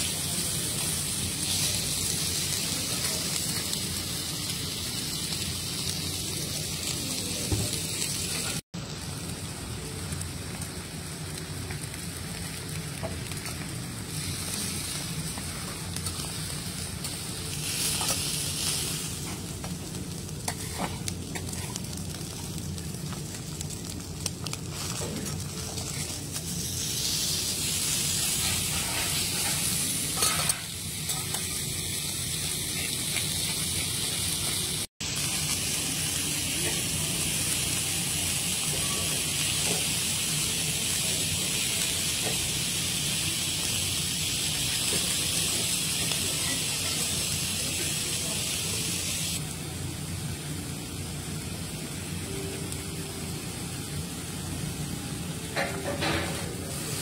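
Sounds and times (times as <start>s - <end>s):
steaks sizzling on a griddle: 0.0s - 57.0s.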